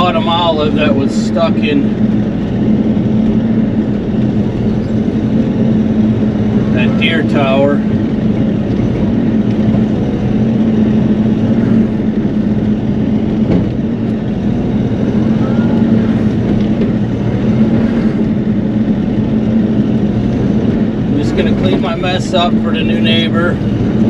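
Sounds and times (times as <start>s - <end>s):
excavator diesel engine and hydraulics: 0.0s - 24.0s.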